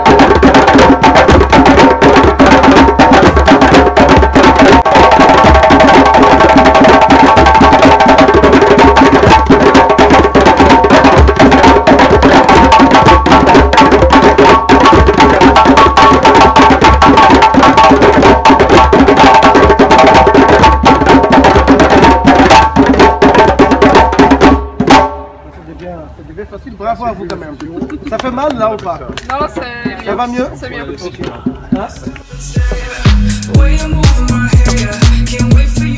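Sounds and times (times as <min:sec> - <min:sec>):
djembes played by hand: 0:00.0 - 0:25.3, 0:27.8 - 0:35.9.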